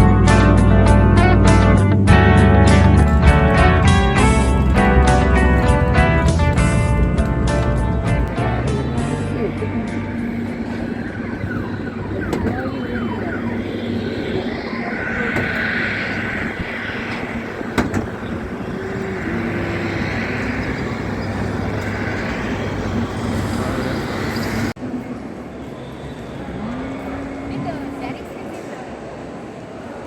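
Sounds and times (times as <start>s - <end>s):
vehicle hum: 0.0s - 24.8s.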